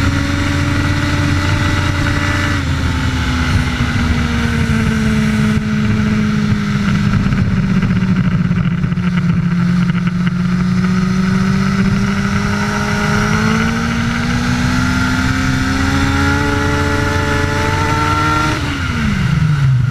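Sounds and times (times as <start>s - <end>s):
motorcycle engine revving high: 0.0s - 19.9s
wind and road noise: 0.0s - 19.9s.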